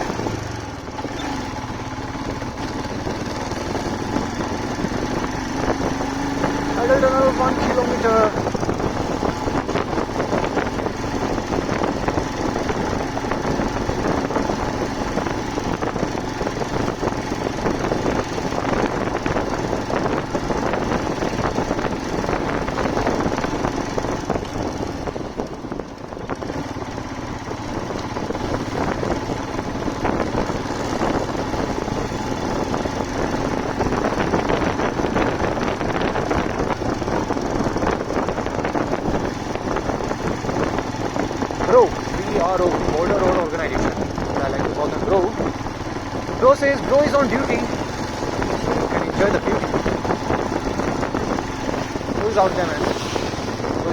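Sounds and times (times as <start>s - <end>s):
motorcycle engine running: 0.0s - 53.9s
road noise: 0.0s - 53.9s.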